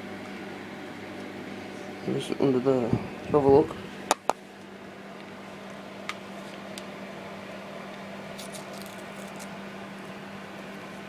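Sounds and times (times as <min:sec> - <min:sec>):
fan heater humming: 0:00.0 - 0:11.0.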